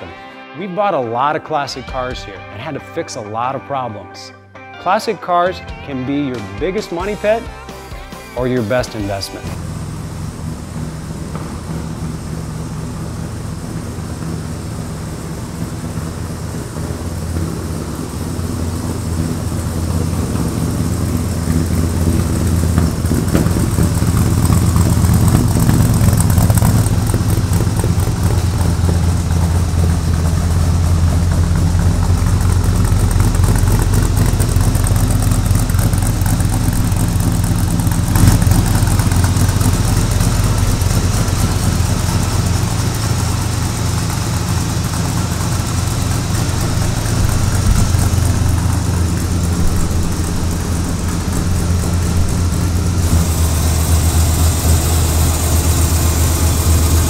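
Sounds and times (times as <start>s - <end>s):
truck engine running: 5.7s - 57.0s.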